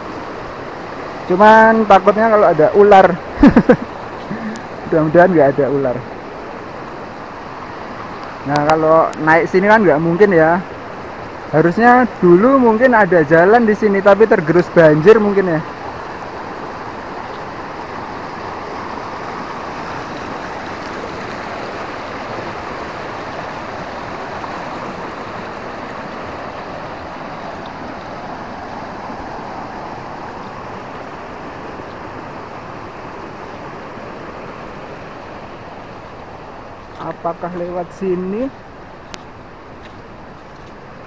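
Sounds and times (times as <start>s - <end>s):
river rushing over rocks: 0.0s - 41.0s.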